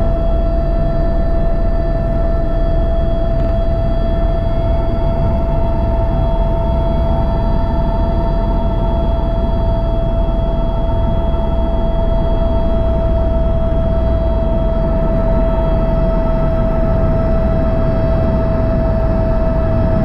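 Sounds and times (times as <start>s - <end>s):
helicopter rotor and engine rumble: 0.0s - 20.0s.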